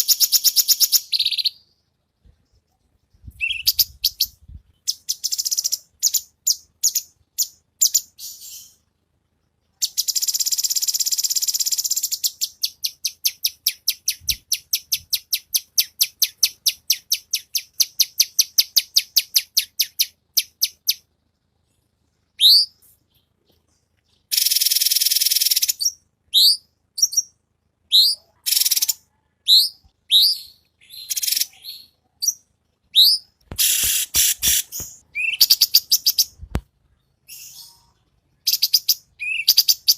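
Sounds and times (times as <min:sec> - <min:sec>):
bird singing trills and chirps: 0:00.0 - 0:39.9.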